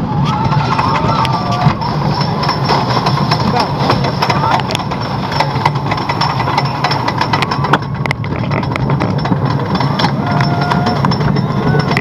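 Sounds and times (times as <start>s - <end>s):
lift chain humming: 0.0s - 12.0s
sharp clacks of chain and track: 0.2s - 12.0s.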